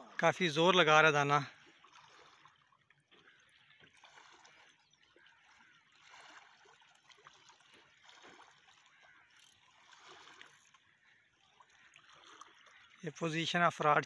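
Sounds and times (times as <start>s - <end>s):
water lapping at shore: 0.0s - 14.0s.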